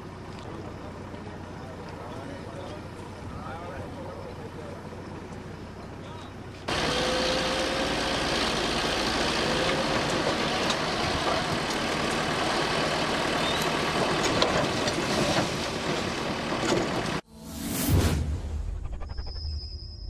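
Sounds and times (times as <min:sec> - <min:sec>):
diesel engines running: 0:00.0 - 0:17.3.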